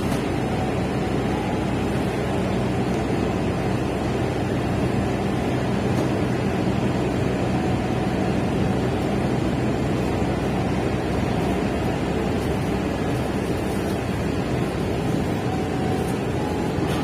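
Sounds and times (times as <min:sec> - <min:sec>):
moving train rumble and hiss: 0:00.0 - 0:17.0.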